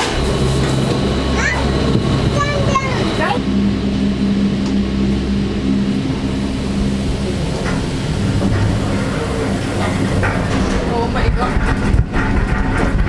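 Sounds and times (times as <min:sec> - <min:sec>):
gondola machinery humming: 0:00.0 - 0:13.0.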